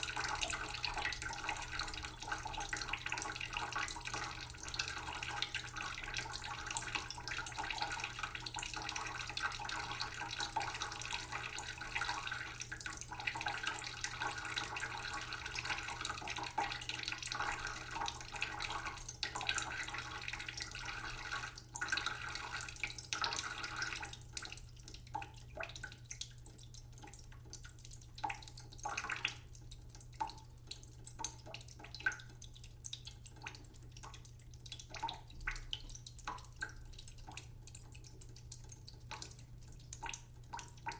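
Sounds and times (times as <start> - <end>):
low steady hum: 0.0 - 40.9
tap water trickling into a pot: 0.0 - 40.9
water dripping: 0.0 - 40.9.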